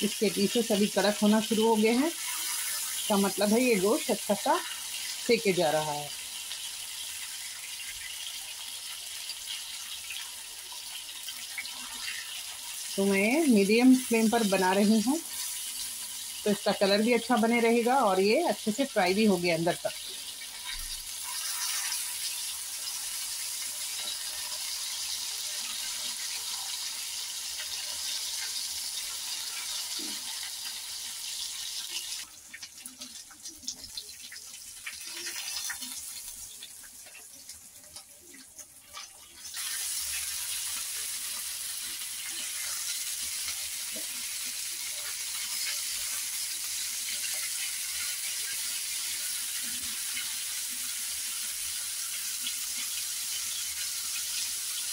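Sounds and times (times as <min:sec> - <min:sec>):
meat sizzling in oil: 0:00.0 - 0:54.9.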